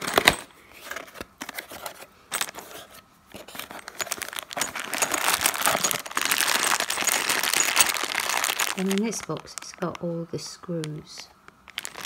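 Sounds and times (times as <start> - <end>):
plastic bag crinkling: 2.3 - 12.0.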